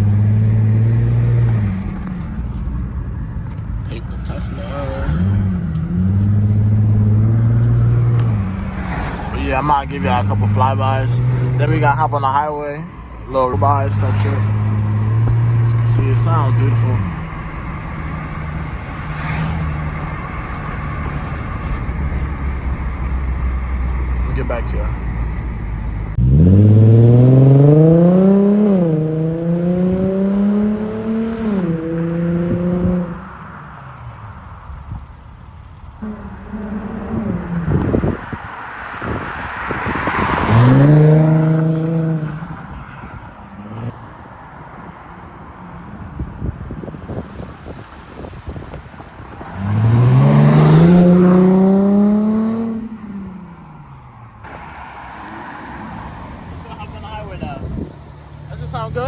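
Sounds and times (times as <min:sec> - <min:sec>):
car engine accelerating hard: 0:00.0 - 0:44.3, 0:45.4 - 0:59.0.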